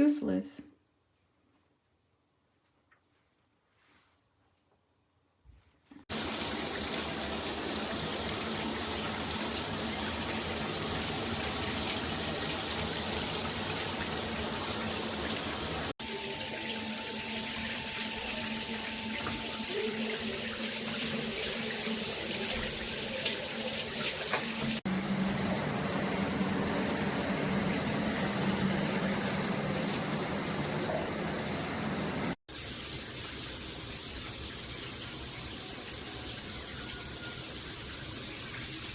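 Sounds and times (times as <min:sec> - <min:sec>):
water spraying from shower head: 0:06.1 - 0:38.9.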